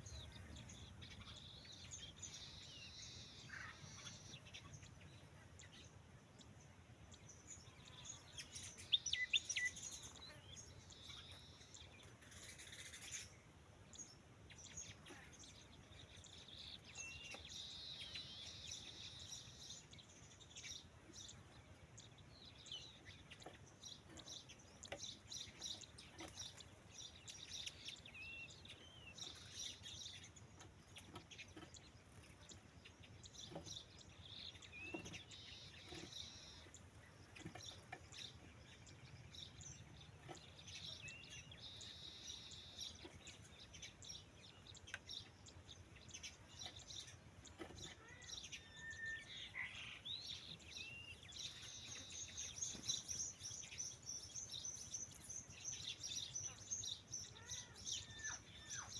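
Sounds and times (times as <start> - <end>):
birds chirping and calling: 0.0 - 58.9.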